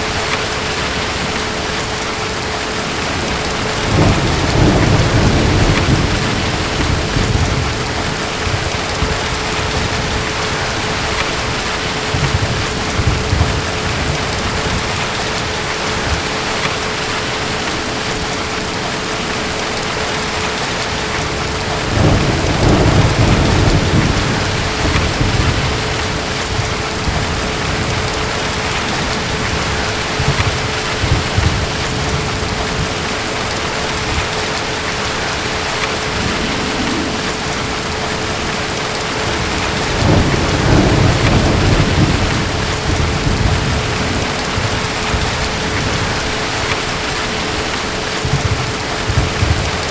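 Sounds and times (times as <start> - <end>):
distant thunder rumbling: 0.0 - 49.9
heavy rain: 0.0 - 49.9.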